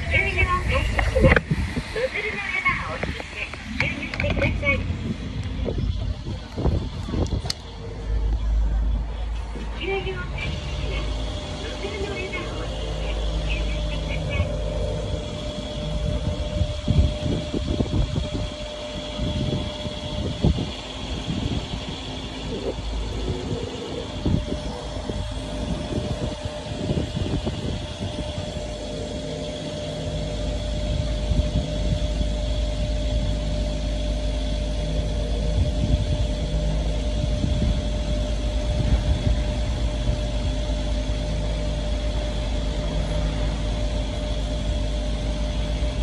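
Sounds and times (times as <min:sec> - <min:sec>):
fuel pump motor humming: 0:00.0 - 0:46.0.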